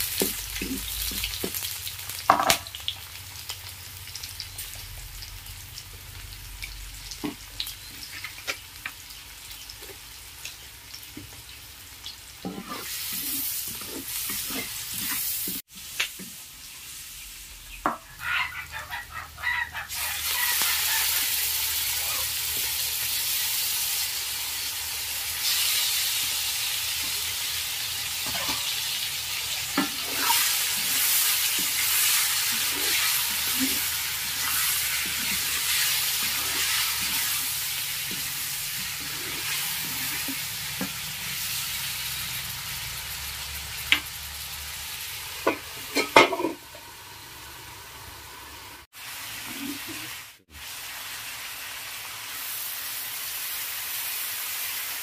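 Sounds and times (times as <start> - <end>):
pork sizzling in a wok: 0.0 - 55.0.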